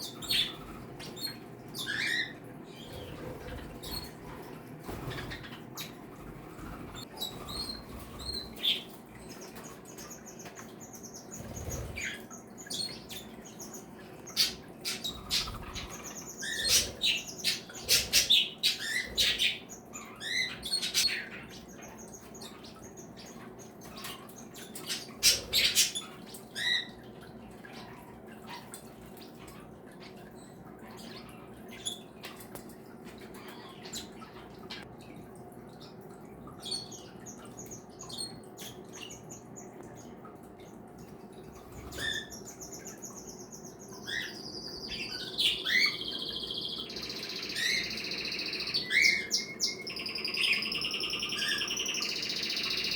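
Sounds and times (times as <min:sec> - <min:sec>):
caged birds chirping and squawking: 0:00.0 - 0:52.9.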